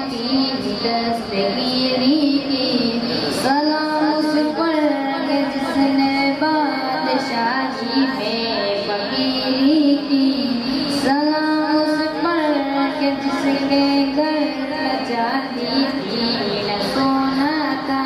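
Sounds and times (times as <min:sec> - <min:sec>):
boy singing into a microphone: 0:00.0 - 0:18.0.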